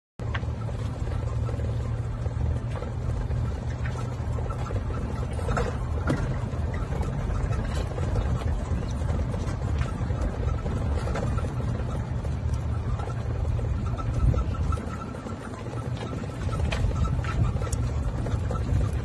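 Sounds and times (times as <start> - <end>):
faint clicks and knocks: 0.2 - 19.0
golf cart rumbling: 0.2 - 19.0.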